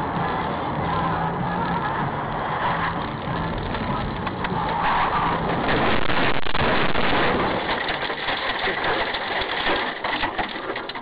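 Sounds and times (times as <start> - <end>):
car road noise: 0.0 - 11.0.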